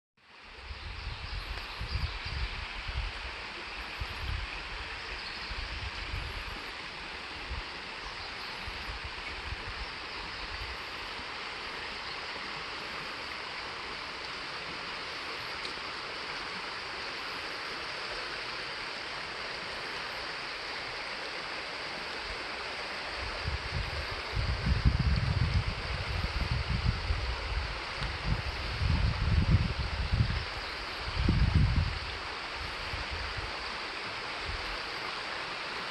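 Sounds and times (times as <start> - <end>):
stream rushing over rocks: 0.2 - 35.9.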